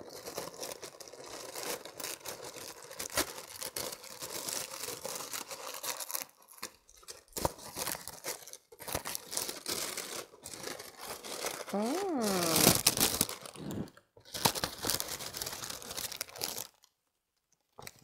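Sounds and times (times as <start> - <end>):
tissue paper rustling and crinkling: 0.0 - 13.6, 14.2 - 16.9.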